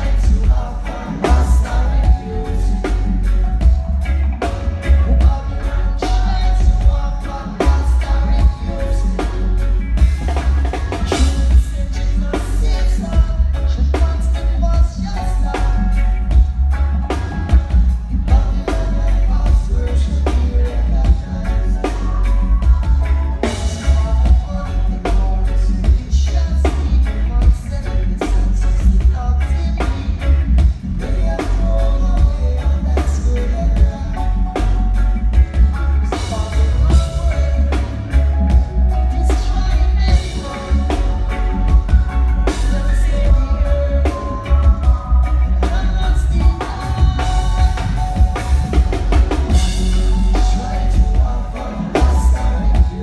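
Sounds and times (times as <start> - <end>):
drum kit beat: 0.0 - 53.0
electric guitars: 0.0 - 53.0
heavy bass: 0.0 - 53.0
lead vocal singing: 0.0 - 53.0.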